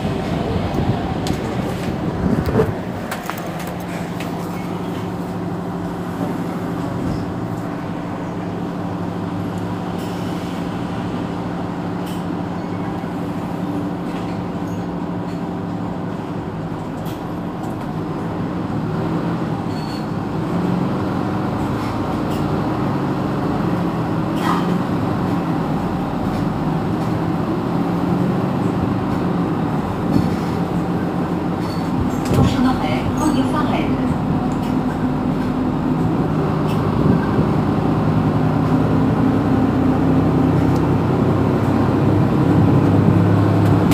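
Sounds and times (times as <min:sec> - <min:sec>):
bus diesel engine idling: 0:00.0 - 0:43.9.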